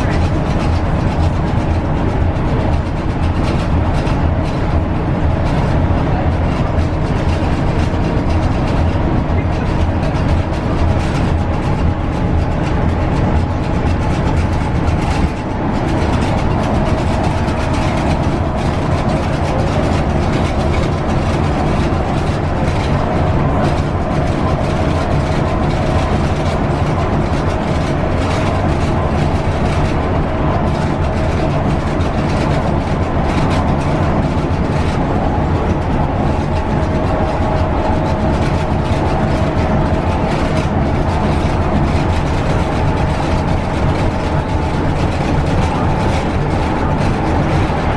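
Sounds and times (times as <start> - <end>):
bus engine drone: 0.0 - 47.9
steady whine: 0.0 - 47.9
tyre roar on concrete: 0.0 - 47.9.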